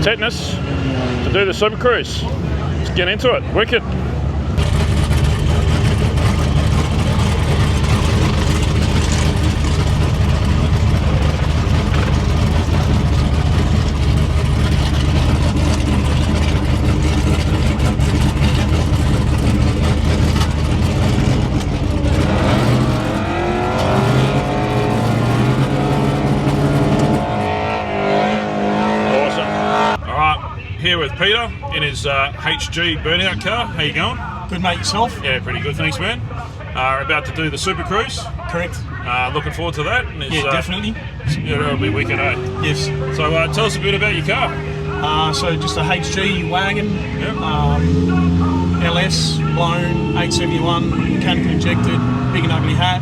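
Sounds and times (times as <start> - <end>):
car engine running loud: 0.0 - 30.6, 32.3 - 53.0.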